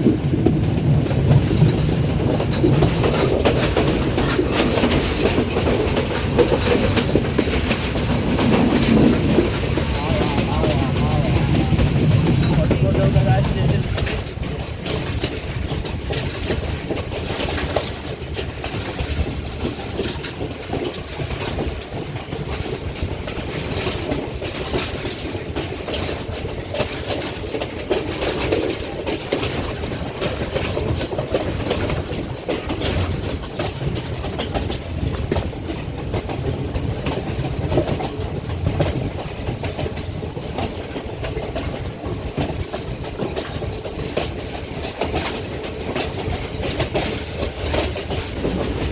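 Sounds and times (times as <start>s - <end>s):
train wheels clacking on rails: 0.0s - 48.9s.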